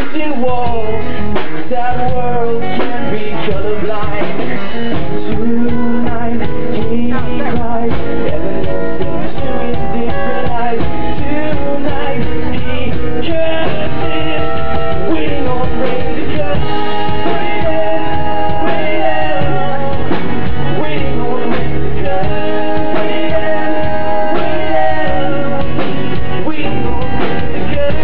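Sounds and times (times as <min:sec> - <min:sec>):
acoustic rock band playing: 0:00.0 - 0:28.0
person singing: 0:00.0 - 0:28.0
strummed guitar chords: 0:00.0 - 0:28.0.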